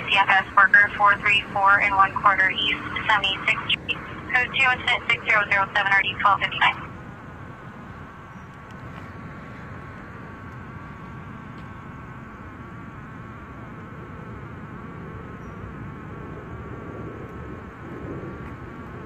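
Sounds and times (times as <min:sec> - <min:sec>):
buzzing hum: 0:00.0 - 0:19.0.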